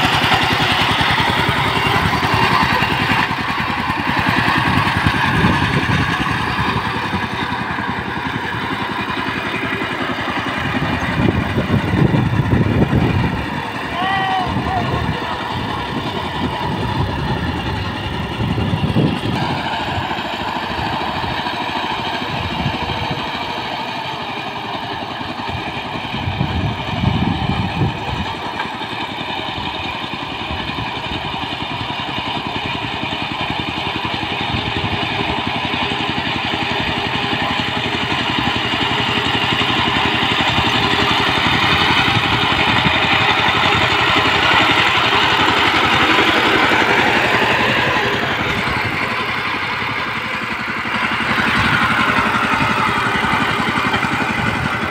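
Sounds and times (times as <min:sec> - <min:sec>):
diesel power tiller engine running: 0:00.0 - 0:54.9.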